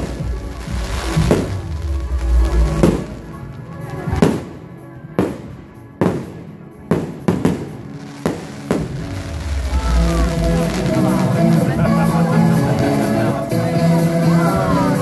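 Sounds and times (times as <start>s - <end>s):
fireworks bangs: 0.0s - 13.3s
music: 0.0s - 15.0s.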